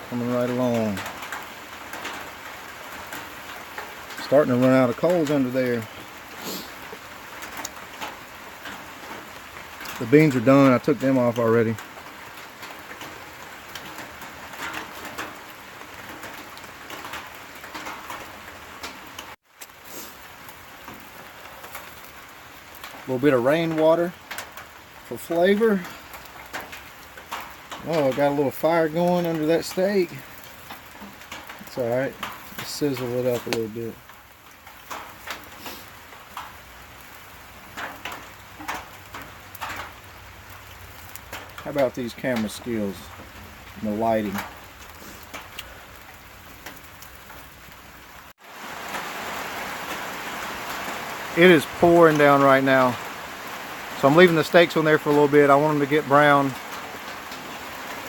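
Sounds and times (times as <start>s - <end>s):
campfire popping and crackling: 0.0s - 58.0s
raindrops pattering: 0.0s - 58.0s
steady rain falling: 0.0s - 58.0s.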